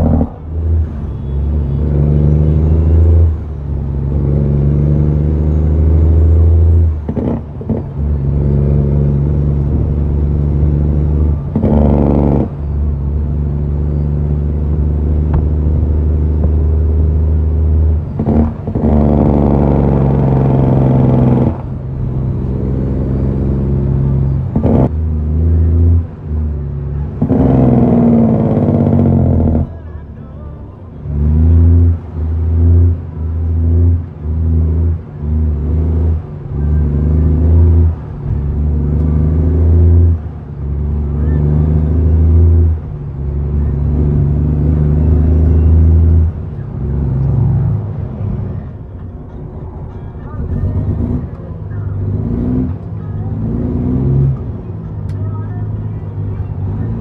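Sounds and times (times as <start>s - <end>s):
truck diesel engine: 0.0s - 57.0s.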